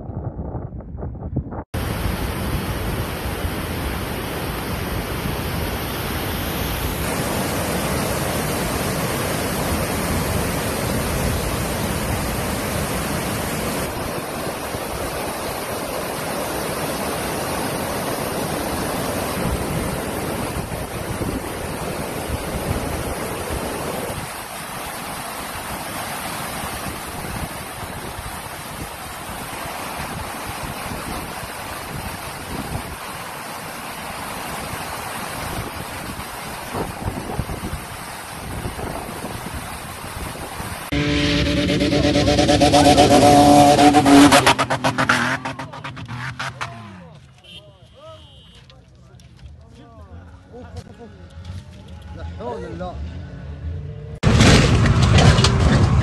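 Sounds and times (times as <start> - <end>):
flood water rushing over rock ledges: 1.8 - 47.3.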